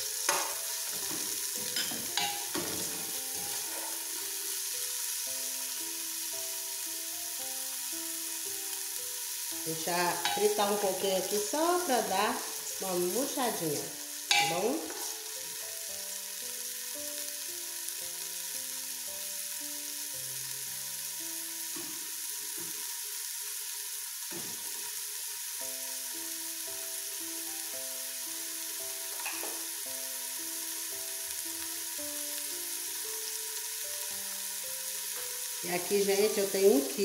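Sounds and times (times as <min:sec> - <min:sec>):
soft background music: 0:00.0 - 0:37.0
vegetables sizzling in oil: 0:00.0 - 0:37.0.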